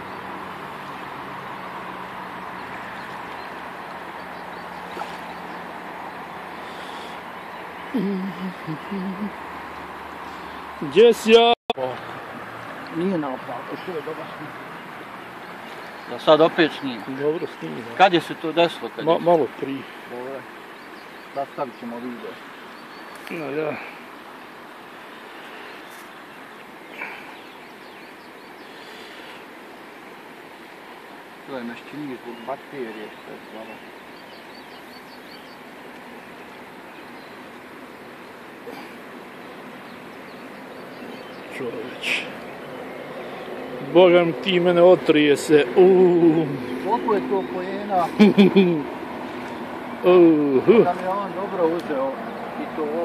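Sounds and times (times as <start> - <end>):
river current rushing: 0.0 - 53.0.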